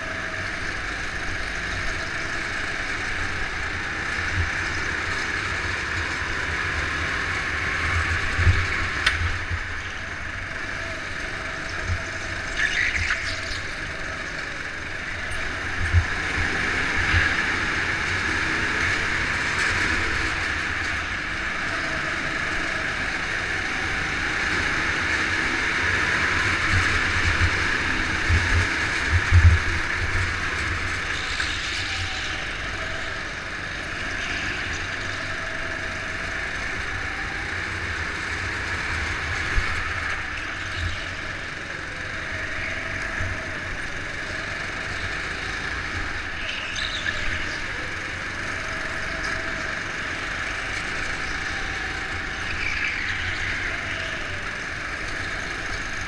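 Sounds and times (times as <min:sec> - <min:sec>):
go-kart engine racing: 0:00.0 - 0:56.0.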